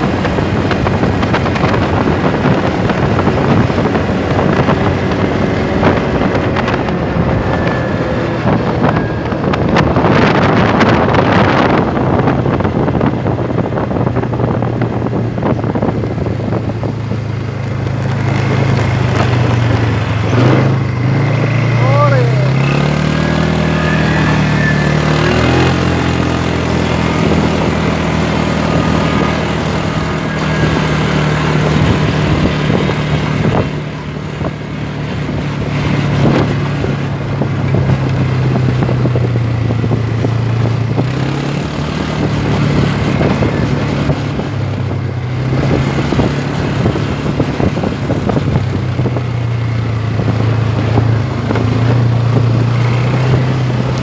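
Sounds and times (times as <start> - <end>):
quad bike engines running: 0.0 - 54.0.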